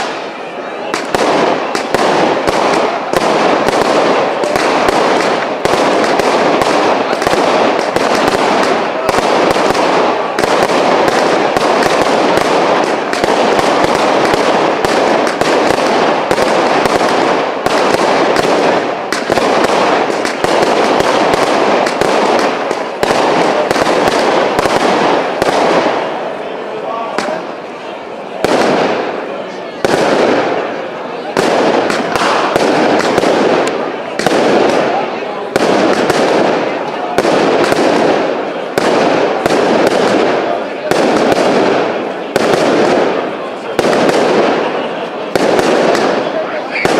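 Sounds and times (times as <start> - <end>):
fireworks barrage crackling: 0.0 - 46.9.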